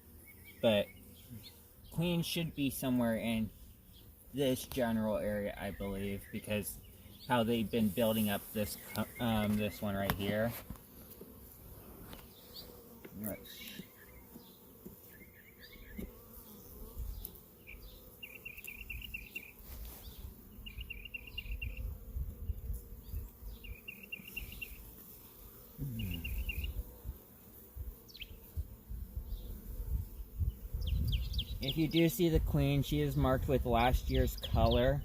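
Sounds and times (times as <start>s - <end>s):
bee flying past: 0.0s - 35.0s
honey bees buzzing: 0.0s - 35.0s.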